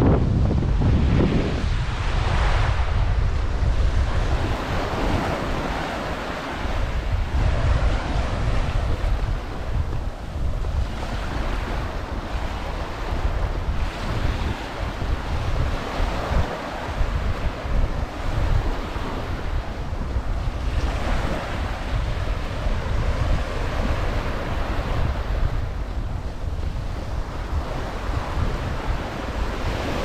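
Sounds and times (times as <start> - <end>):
waves breaking on beach: 0.0 - 30.0
wind buffeting microphone: 0.0 - 30.0.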